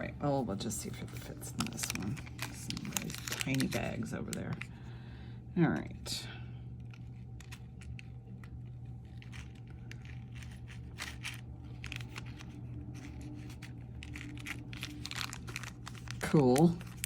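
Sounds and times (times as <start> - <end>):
steady low hum: 0.0 - 17.0
jewelry bag crinkling: 1.0 - 4.7, 6.8 - 17.0.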